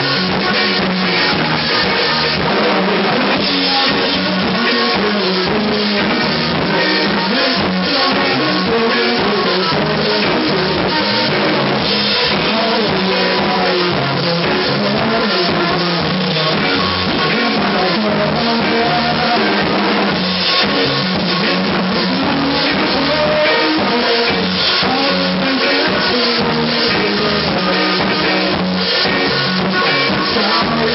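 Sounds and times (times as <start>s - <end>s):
electric guitar: 0.0s - 30.9s
person singing: 0.0s - 30.9s
rock band playing: 0.0s - 30.9s.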